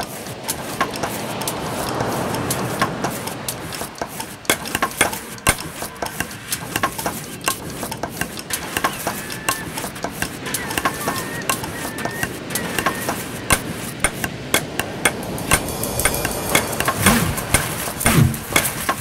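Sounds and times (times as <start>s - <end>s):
rushing hiss: 0.0s - 19.0s.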